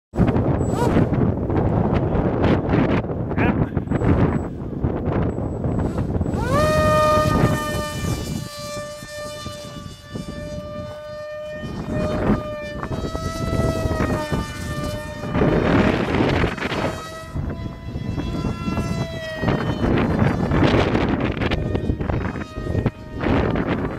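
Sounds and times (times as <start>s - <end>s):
wind noise on microphone: 0.1s - 23.9s
model airplane motor whining: 3.9s - 23.9s.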